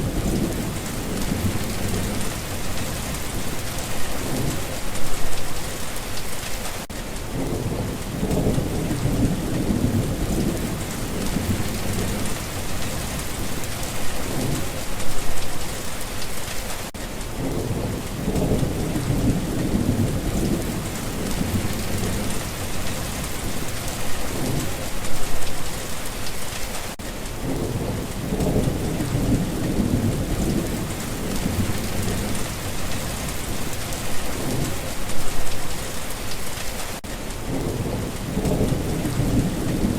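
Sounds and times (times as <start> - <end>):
rolling thunder: 0.0 - 5.6, 7.3 - 15.6, 17.4 - 25.4, 27.4 - 35.6, 37.4 - 39.9
heavy rain falling: 0.0 - 39.9.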